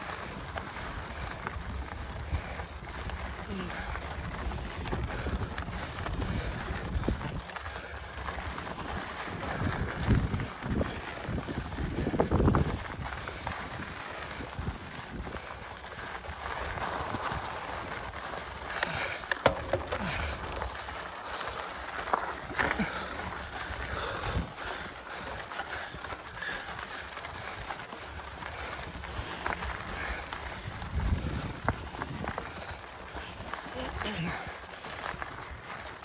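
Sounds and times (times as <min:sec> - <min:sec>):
wind and tyre noise: 0:00.0 - 0:36.0
bike clicks and rattles: 0:00.1 - 0:33.8.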